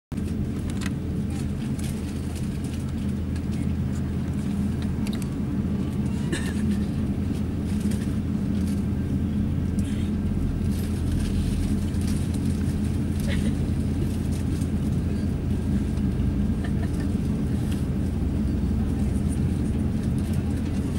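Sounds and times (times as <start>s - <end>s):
airplane cabin engine rumble: 0.1s - 20.9s.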